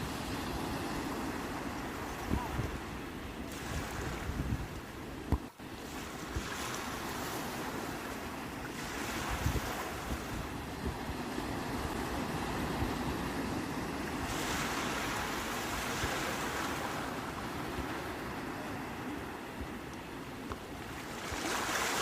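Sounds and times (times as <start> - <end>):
sea waves washing on shore: 0.0 - 22.0
wind on microphone: 0.0 - 22.0.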